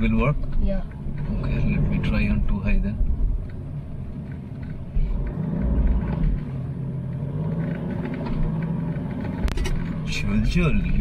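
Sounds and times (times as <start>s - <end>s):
vehicle engine rumbling under load: 0.0s - 11.0s.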